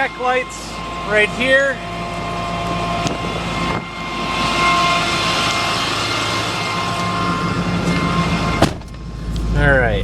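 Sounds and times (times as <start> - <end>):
diesel engine idling: 0.0 - 10.0
high whine: 0.0 - 10.0.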